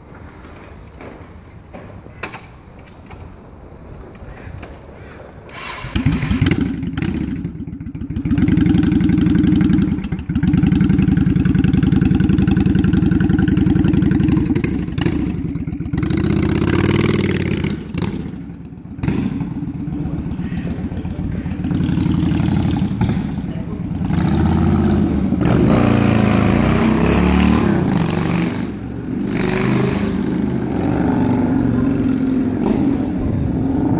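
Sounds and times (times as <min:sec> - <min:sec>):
motorcycle engine revving: 0:05.5 - 0:33.9.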